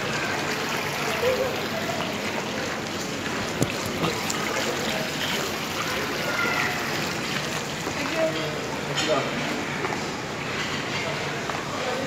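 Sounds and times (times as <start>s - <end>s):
rushing water: 0.0s - 10.5s
faint distant voices: 0.0s - 12.0s.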